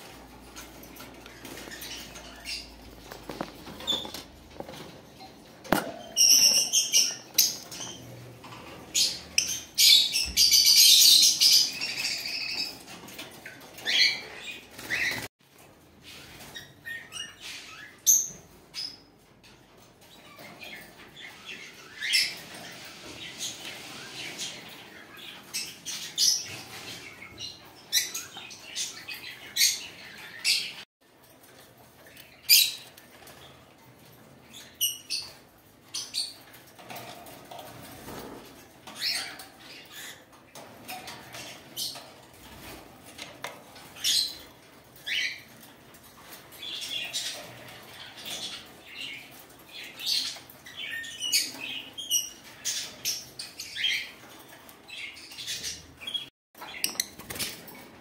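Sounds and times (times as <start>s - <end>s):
caged birds chirping: 0.0s - 58.0s.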